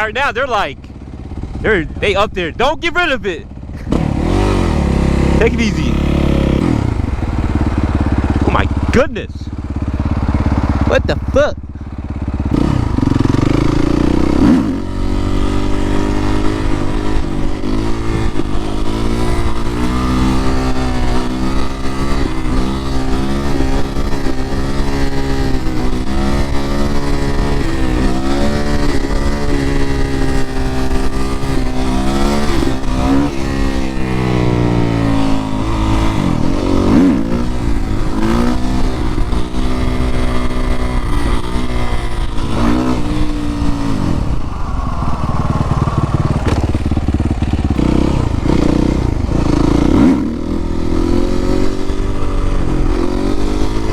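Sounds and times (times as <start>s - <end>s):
motorcycle engine revving: 0.0s - 53.9s
wind rumble: 6.0s - 53.9s.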